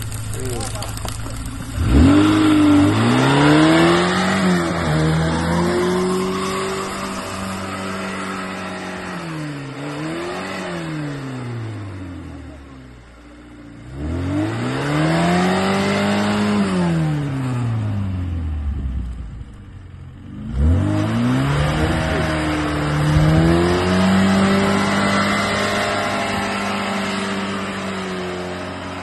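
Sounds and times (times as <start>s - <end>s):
car engine revving hard: 1.0s - 12.9s, 13.6s - 18.7s, 20.2s - 29.0s.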